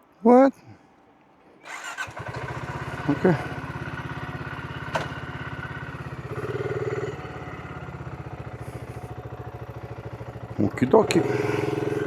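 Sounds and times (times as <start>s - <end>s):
motorcycle engine idling: 1.8s - 12.0s.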